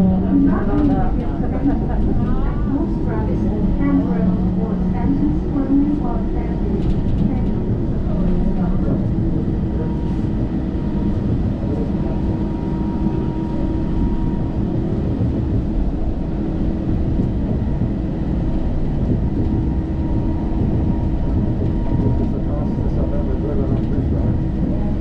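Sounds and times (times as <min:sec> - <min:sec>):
faint steady hum: 0:00.0 - 0:25.0
train cabin low rumble: 0:00.0 - 0:25.0.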